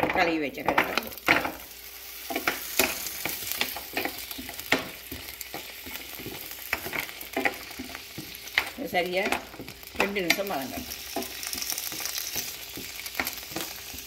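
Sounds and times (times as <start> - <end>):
carrots sizzling in oil: 0.0 - 14.0
spatula scraping a pan: 1.3 - 14.0.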